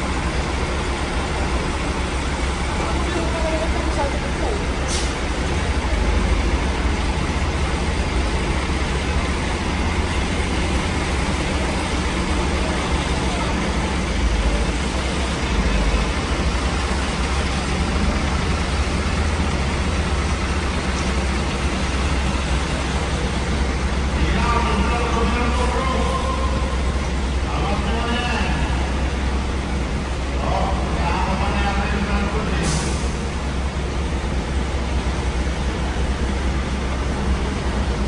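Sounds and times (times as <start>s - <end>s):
bus diesel engine rumbling: 0.0s - 38.0s.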